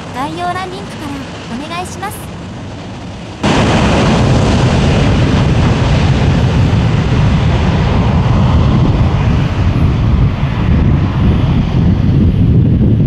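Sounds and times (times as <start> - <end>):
jet engines roaring: 0.0 - 12.8.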